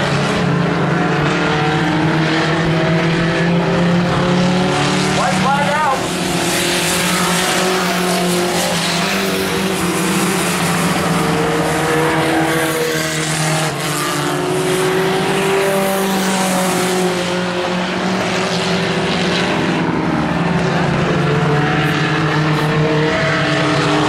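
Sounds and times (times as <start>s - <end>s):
race truck engines roaring: 0.0s - 24.0s.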